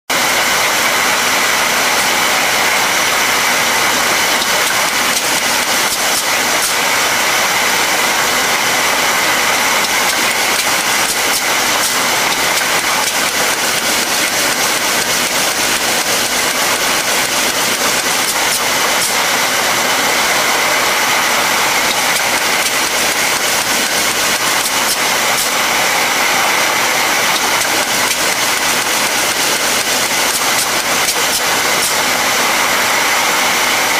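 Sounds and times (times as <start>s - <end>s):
labelling machine whirring: 0.1s - 33.9s.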